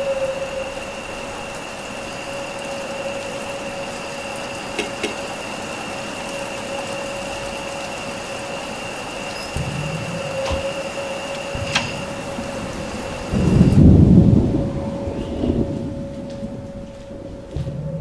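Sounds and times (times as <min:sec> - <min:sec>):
constant tones: 0:00.0 - 0:18.0
rain hiss: 0:00.0 - 0:18.0.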